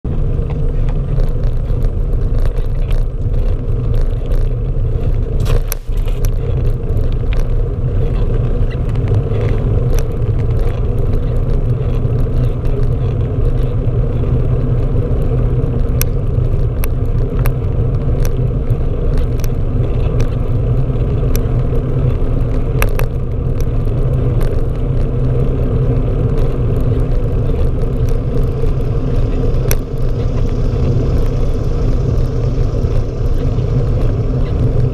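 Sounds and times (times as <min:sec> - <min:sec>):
road vibration rumble: 0:00.0 - 0:34.9.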